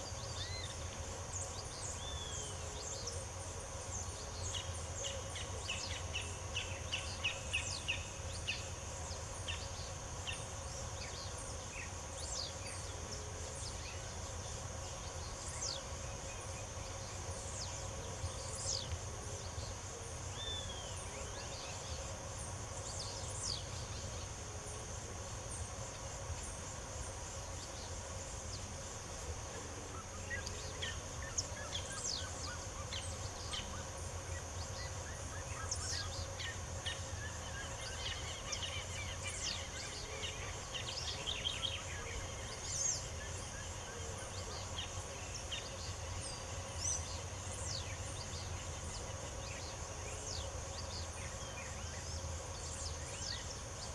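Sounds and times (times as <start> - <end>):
high insect drone: 0.0 - 53.9
low background hum: 0.0 - 53.9.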